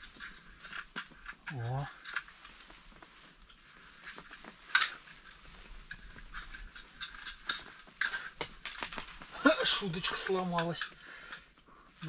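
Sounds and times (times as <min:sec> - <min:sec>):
clicks and rustles of fishing tackle: 0:00.0 - 0:11.7.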